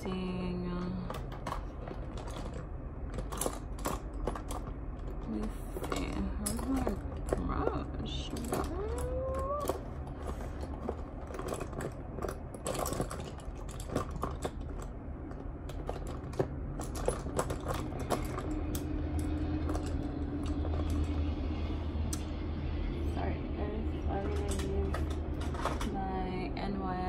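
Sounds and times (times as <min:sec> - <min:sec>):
makeup containers clicking and rattling: 0:00.0 - 0:21.2, 0:24.2 - 0:26.0
faint low hum: 0:00.0 - 0:27.0.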